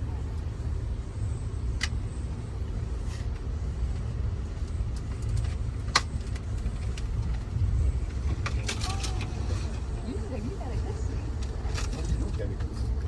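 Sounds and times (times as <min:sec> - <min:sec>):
train car rumbling on track: 0:00.0 - 0:13.0.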